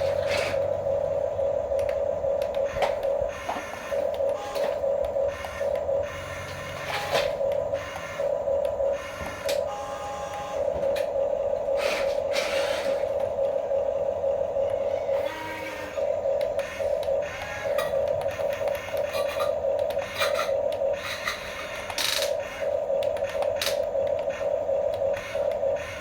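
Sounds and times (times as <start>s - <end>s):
toy electric motors whining: 0.0s - 26.0s.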